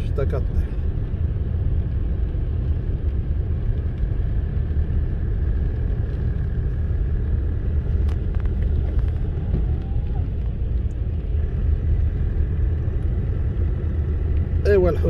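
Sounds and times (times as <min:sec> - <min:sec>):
car driving on wet road: 0:00.0 - 0:15.0.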